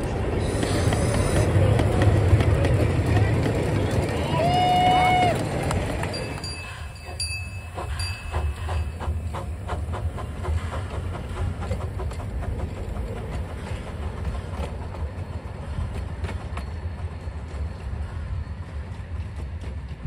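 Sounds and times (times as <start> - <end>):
train wheels clacking: 0.0 - 20.0.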